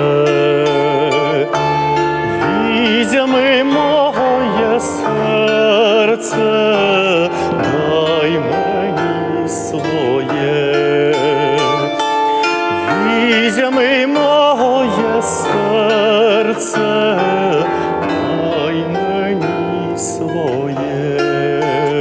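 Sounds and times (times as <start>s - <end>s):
man singing with vibrato: 0.0s - 22.0s
plucked string instrument: 0.0s - 22.0s.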